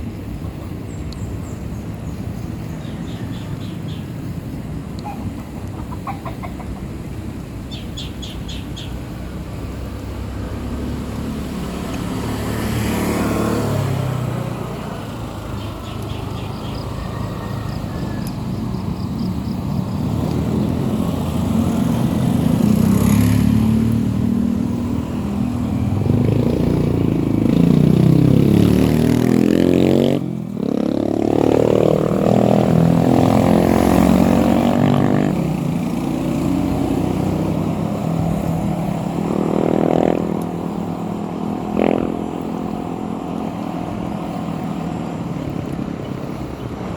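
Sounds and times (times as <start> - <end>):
motorcycle engine revving: 7.7 - 46.9.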